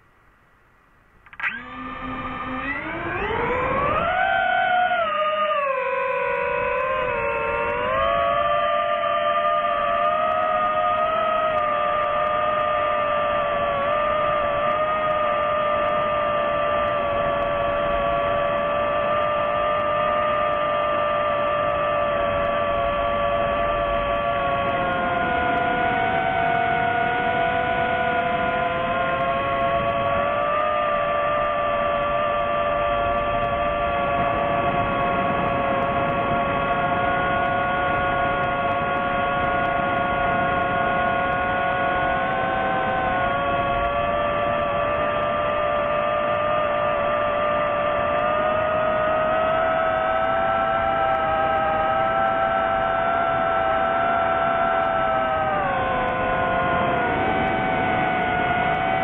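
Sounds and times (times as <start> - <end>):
drone propellers whining: 1.1 - 59.0.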